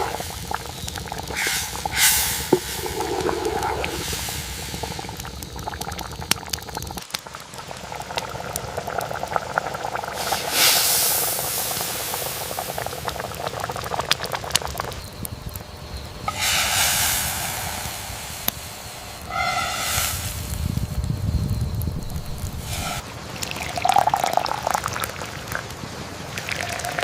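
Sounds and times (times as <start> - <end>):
campfire crackling pops: 0.0 - 25.8
liquid bubbling in a pot: 0.0 - 27.0.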